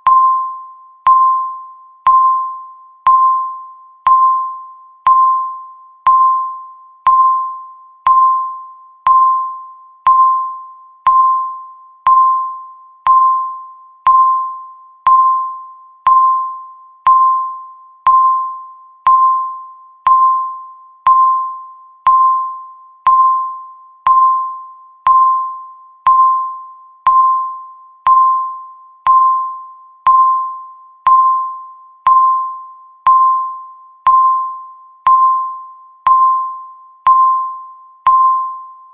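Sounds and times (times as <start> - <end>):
short chime-like timer beeps: 0.0 - 38.9.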